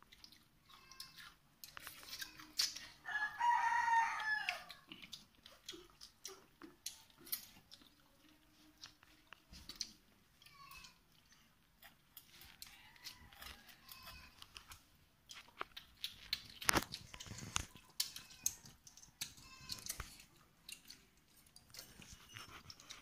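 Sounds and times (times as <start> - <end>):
chewing food: 0.0 - 23.0.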